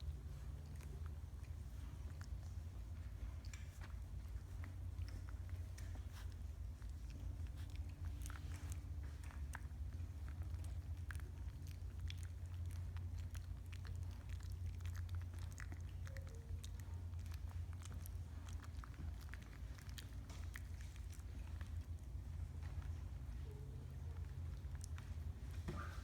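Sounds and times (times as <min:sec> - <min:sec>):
puppies chewing: 0:00.0 - 0:26.0
steady low hum: 0:00.0 - 0:26.0.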